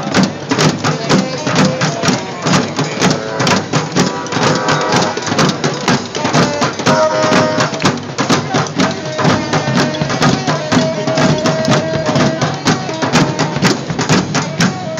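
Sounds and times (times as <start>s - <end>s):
bass drum: 0.0s - 14.9s
hand drums beating: 0.0s - 14.9s.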